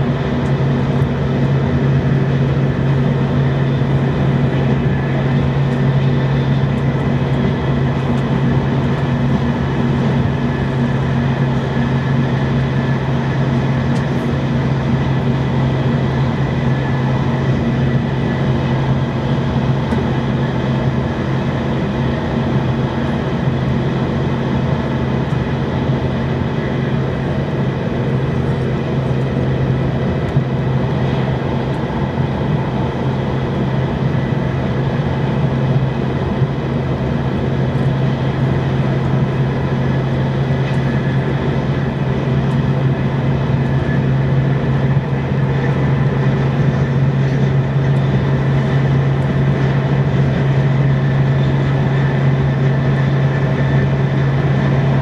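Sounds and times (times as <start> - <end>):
train interior hum and rushing: 0.0 - 55.0.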